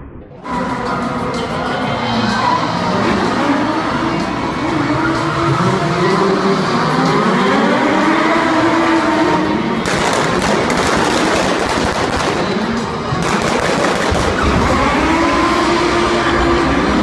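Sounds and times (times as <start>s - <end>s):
music: 0.0s - 17.0s
car engines revving: 0.4s - 17.0s.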